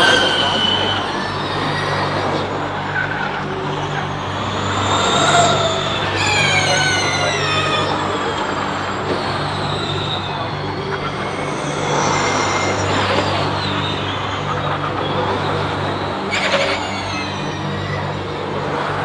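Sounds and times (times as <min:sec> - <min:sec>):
electric race cars whining past: 0:00.0 - 0:19.0.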